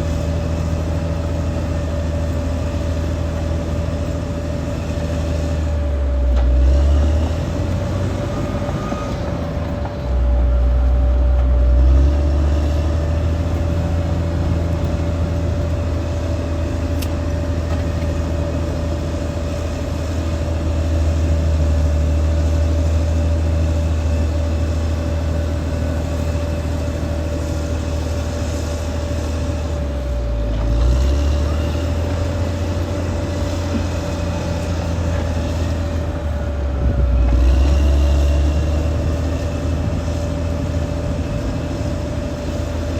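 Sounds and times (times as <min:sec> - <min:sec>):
bulldozer diesel engine: 0:00.0 - 0:42.9
engine whine: 0:00.0 - 0:42.9.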